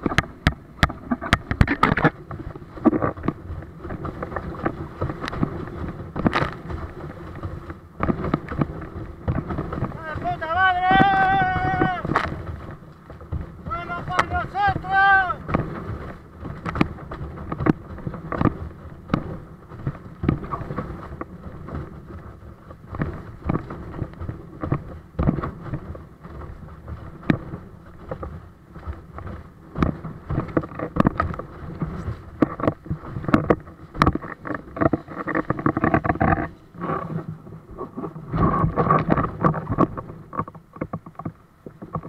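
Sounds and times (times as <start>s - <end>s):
board hull slapping water: 0.0s - 42.0s
rushing water: 0.0s - 42.0s
wind: 0.0s - 42.0s.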